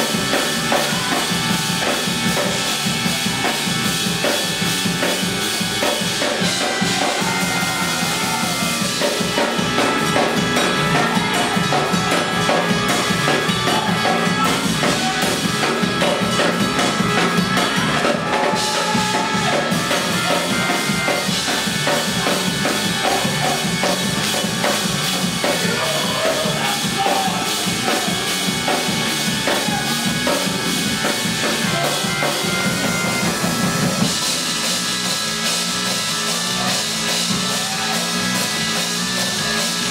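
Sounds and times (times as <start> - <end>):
drum kit beat: 0.0 - 39.9
live church band music: 0.0 - 39.9.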